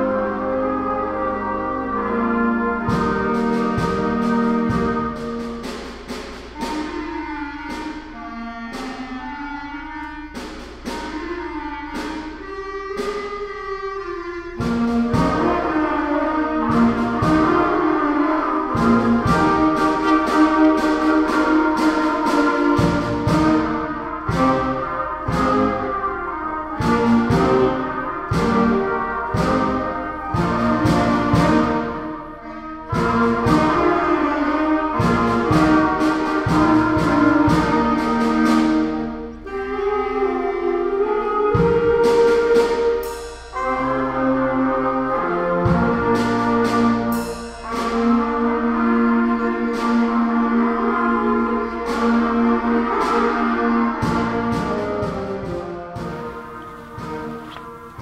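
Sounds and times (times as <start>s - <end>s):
cymbal and drum strokes: 0.0s - 58.0s
school band playing: 0.0s - 58.0s.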